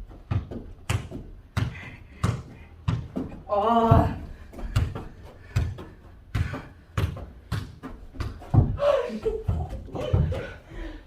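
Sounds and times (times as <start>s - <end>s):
soccer ball kicks and bounces: 0.0s - 10.7s.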